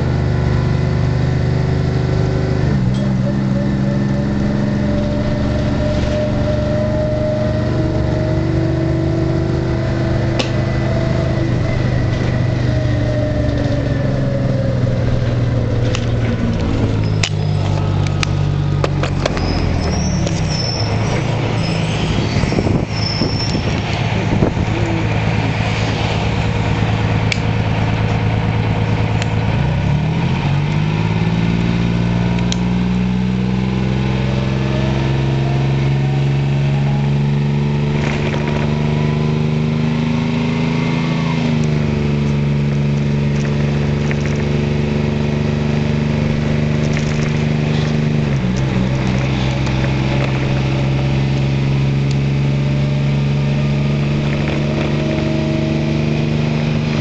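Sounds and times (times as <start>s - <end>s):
bus diesel engine: 0.0s - 57.0s
bus body rattles and clicks: 2.4s - 33.1s, 35.8s - 57.0s.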